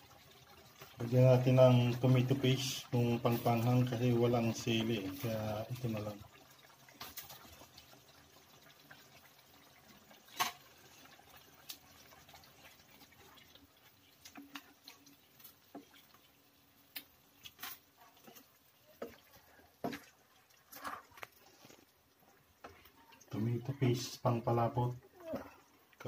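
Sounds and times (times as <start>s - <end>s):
spoon stirring stew in a pan: 0.1s - 24.5s.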